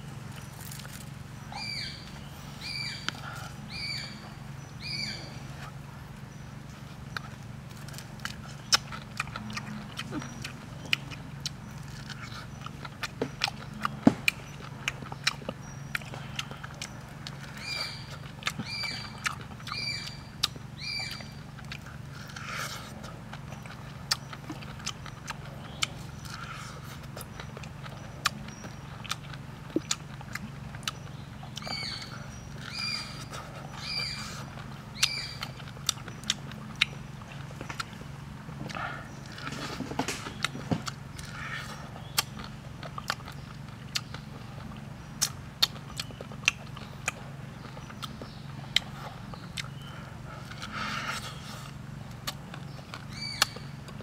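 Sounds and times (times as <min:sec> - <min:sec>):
chewing corn on the cob: 0:00.0 - 0:54.0
low steady hum: 0:00.0 - 0:54.0.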